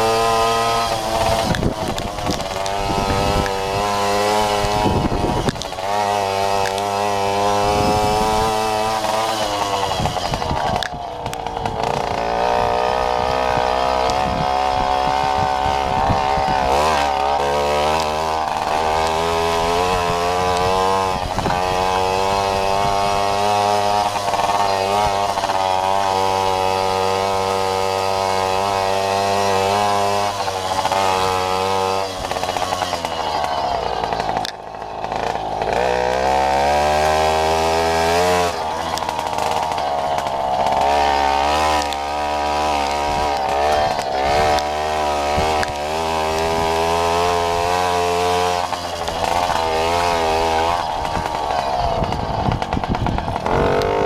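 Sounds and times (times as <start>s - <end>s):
moped engine running: 0.0s - 54.0s.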